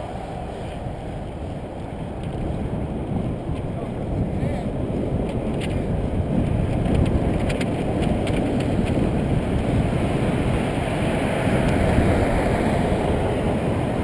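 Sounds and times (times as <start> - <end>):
bicycle road noise: 0.0 - 14.0
wind rush on microphone: 0.0 - 14.0.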